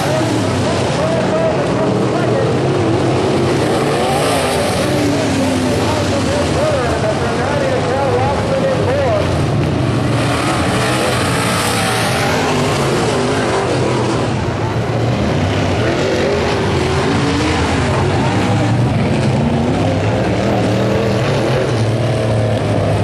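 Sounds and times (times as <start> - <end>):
race car engines running loud: 0.0 - 23.0.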